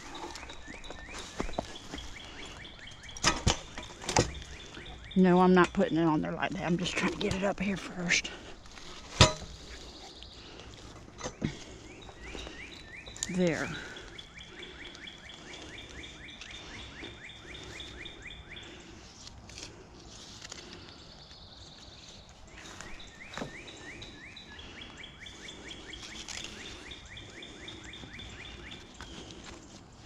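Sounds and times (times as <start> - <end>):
songbird chirping: 0.0 - 30.0.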